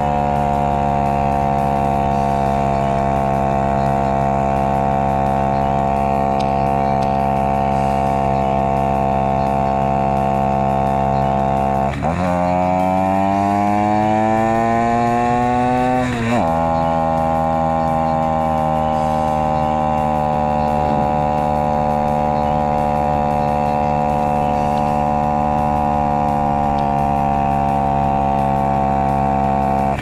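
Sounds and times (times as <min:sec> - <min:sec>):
small motorcycle engine pulling uphill: 0:00.0 - 0:30.0.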